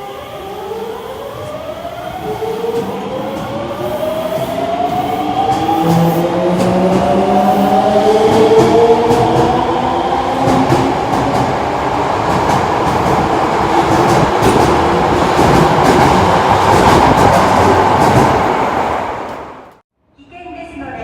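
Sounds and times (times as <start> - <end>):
subway train wheels rumbling: 0.0 - 19.8.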